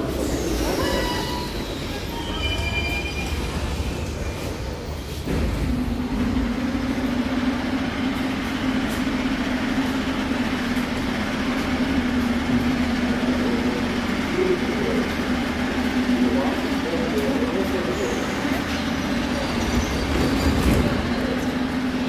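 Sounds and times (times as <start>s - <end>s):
train machinery humming: 0.0s - 22.0s.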